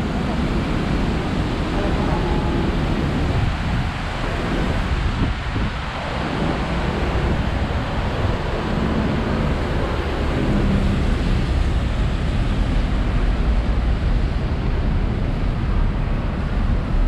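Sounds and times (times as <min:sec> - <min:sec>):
city traffic on wet roads: 0:00.0 - 0:17.0
wind rumbling on microphone: 0:00.0 - 0:17.0.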